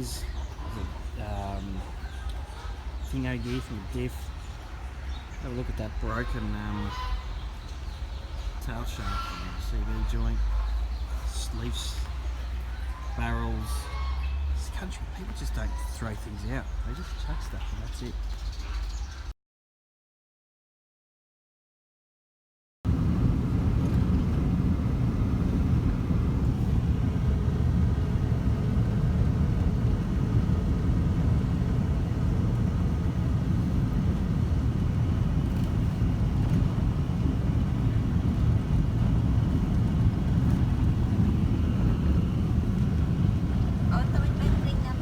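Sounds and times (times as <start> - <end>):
vehicle rumbling: 0.0 - 19.3, 22.9 - 45.0.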